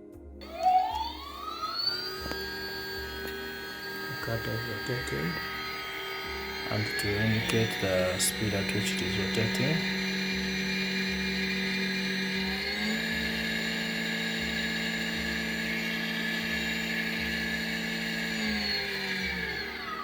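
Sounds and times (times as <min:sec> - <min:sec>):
spindle motor whine: 0:00.0 - 0:20.0.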